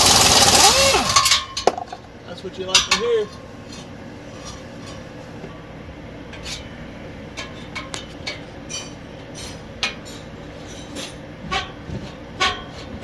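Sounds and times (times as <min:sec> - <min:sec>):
low background hum: 0:00.6 - 0:13.0.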